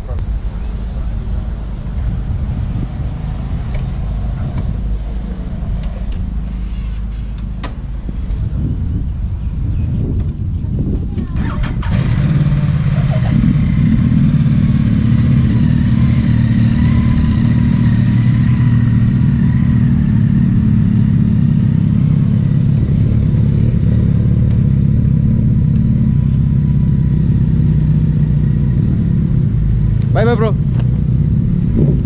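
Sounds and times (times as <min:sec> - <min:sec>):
motorcycle engines running: 0:00.0 - 0:32.0.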